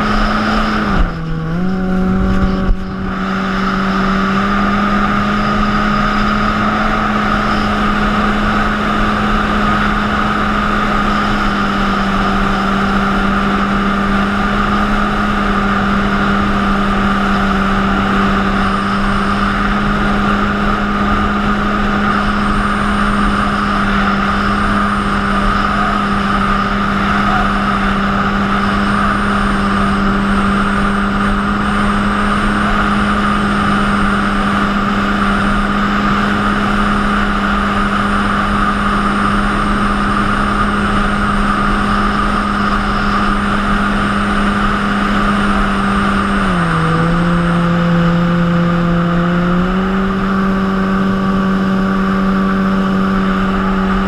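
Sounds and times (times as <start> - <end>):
jet ski engine: 0.0 - 54.0.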